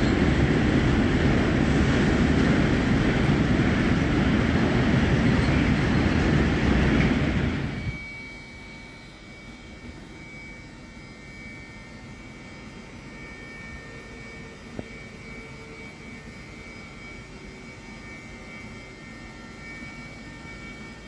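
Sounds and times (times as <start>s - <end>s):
electric train humming: 0.0s - 21.0s
faint high whine: 0.0s - 21.0s.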